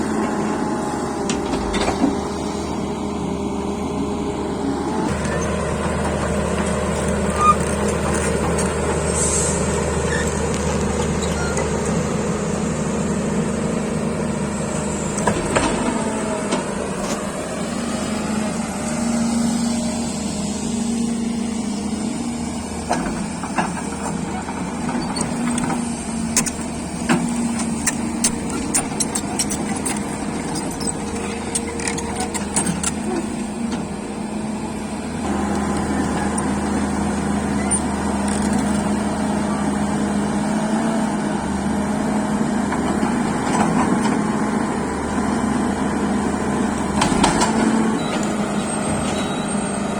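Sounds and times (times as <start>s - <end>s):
diesel machinery engine running: 0.0s - 49.9s.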